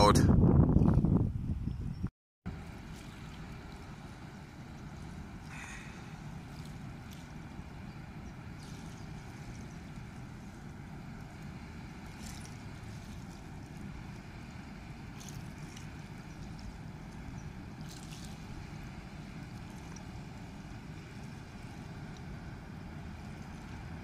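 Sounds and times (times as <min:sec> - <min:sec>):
distant diesel engine rumble: 0:02.5 - 0:24.0.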